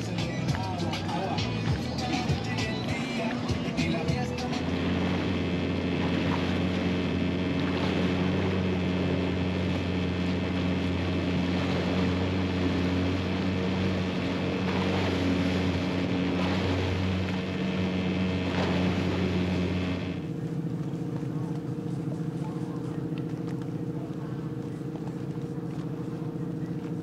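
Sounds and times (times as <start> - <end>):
motorboat engine running: 0.0 - 27.0
water rushing in boat wake: 0.0 - 27.0.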